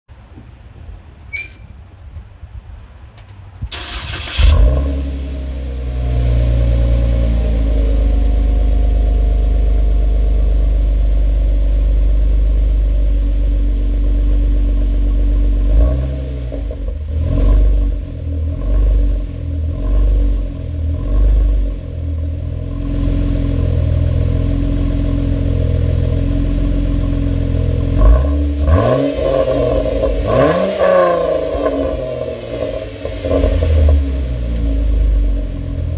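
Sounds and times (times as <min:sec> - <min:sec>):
car engine starting and idling: 0:03.2 - 0:35.9
car engine revving: 0:03.8 - 0:35.9.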